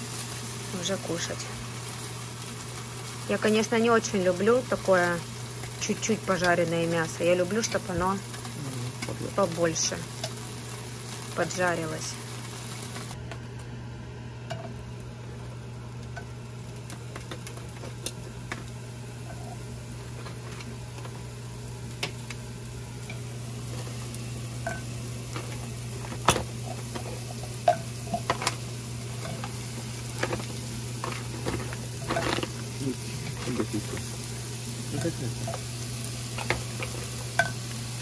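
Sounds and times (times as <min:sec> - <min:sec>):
beef sizzling in a pan: 0:00.0 - 0:13.2, 0:14.5 - 0:38.0
steady low hum: 0:00.0 - 0:38.0.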